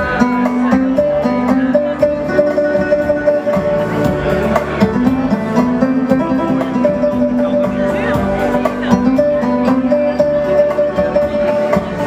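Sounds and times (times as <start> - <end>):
electronic keyboard dance music: 0.0 - 12.0.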